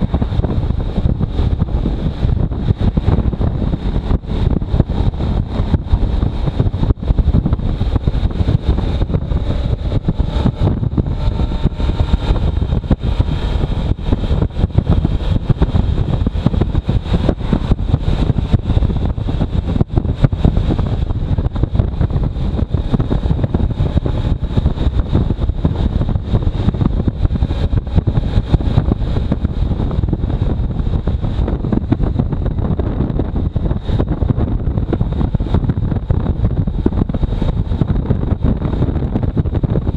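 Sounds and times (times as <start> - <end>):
faint motorcycle engine: 0.0 - 39.9
wind buffeting microphone: 0.0 - 39.9.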